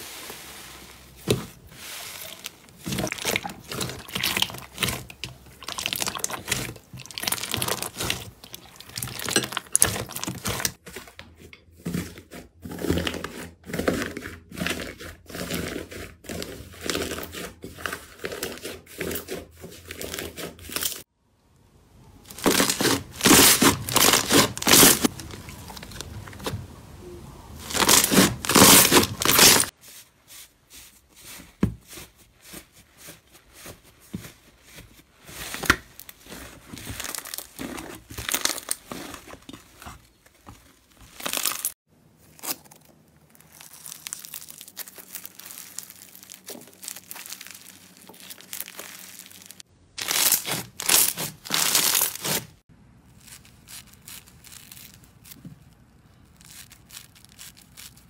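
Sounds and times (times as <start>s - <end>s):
slime squelching: 0.0s - 11.0s, 21.9s - 58.0s.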